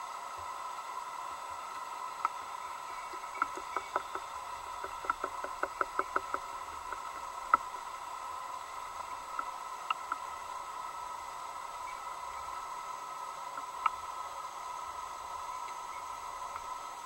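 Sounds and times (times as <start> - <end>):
steady high hum: 0.0 - 17.0.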